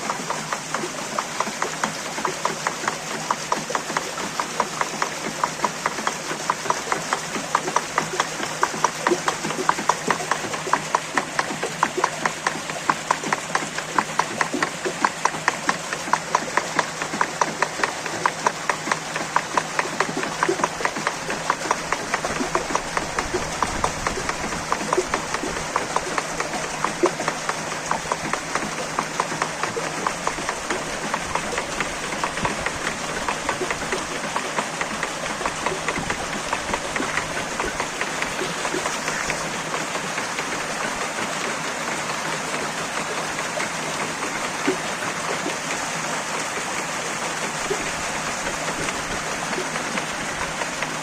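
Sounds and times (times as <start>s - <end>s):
mill mechanism wooden knocking: 0.0s - 51.0s.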